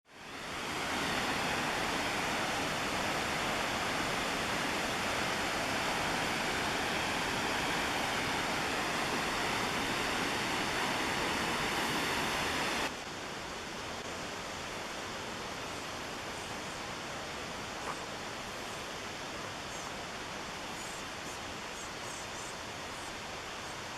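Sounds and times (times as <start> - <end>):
fast river water rushing: 0.1 - 21.7.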